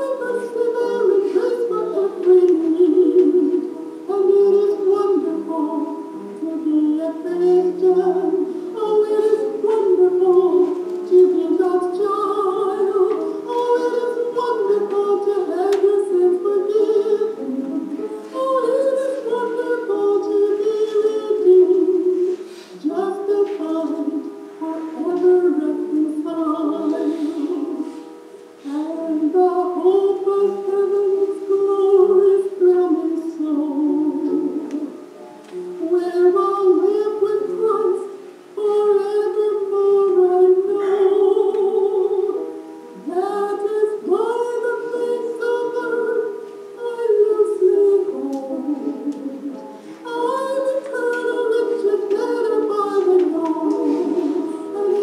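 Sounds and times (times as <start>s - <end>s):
unaccompanied hymn singing: 0.0s - 55.0s.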